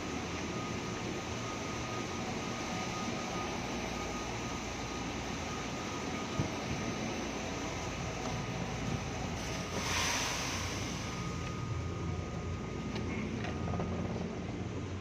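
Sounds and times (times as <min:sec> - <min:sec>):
thin steady tone: 0:00.0 - 0:14.4.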